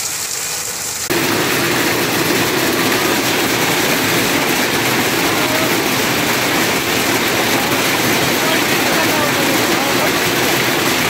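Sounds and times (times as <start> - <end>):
heavy hail and rain pelting: 0.0 - 11.0.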